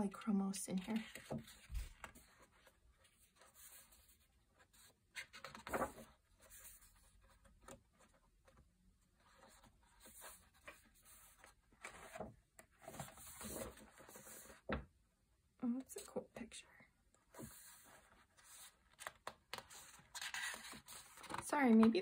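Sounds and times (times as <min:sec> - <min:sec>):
book pages rustling and turning: 0:00.7 - 0:14.9, 0:17.2 - 0:22.0.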